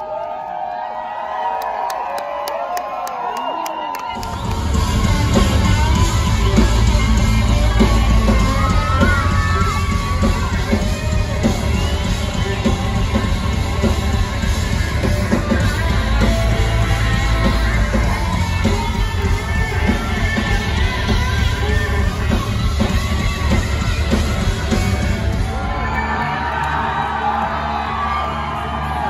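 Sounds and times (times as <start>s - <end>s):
singer: 4.1s - 29.0s
live rock band: 4.2s - 29.0s.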